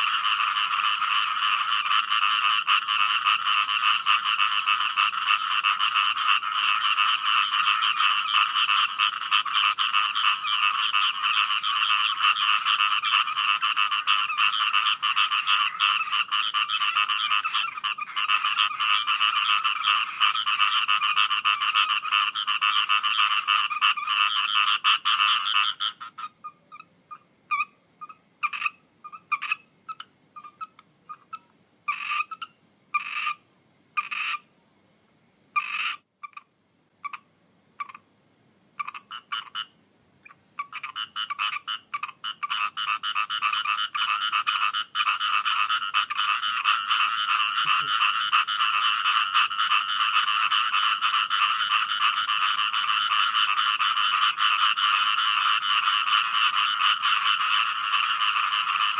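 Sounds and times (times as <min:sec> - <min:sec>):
frogs calling: 0:00.0 - 0:58.9.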